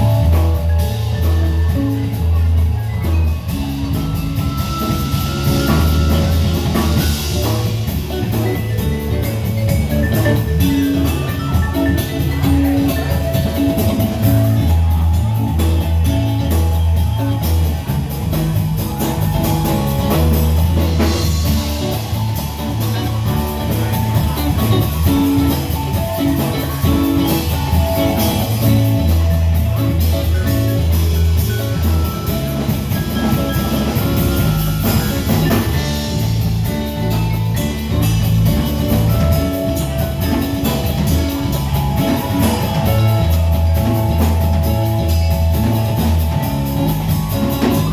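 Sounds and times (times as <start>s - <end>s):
drum kit with cymbals: 0.0s - 47.9s
electric bass line: 0.0s - 47.9s
electric guitar: 0.0s - 47.9s
vibraphone: 0.0s - 47.9s.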